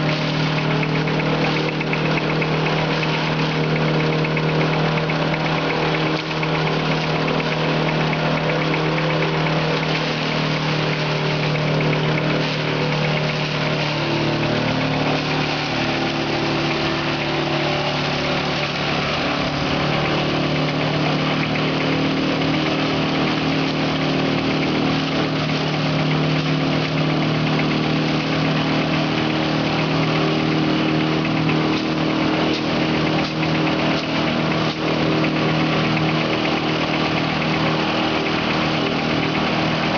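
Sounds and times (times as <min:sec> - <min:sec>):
crop shredder whirring: 0:00.0 - 0:39.9
engine hum: 0:00.0 - 0:39.9.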